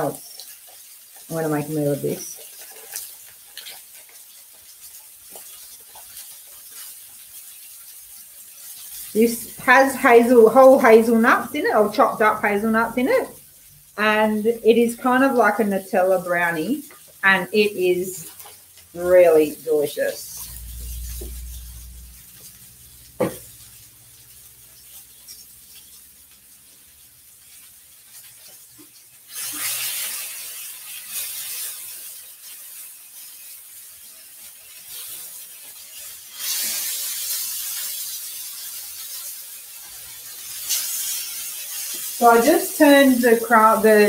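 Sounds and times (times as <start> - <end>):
chicken sizzling in a pan: 0.0 - 44.0.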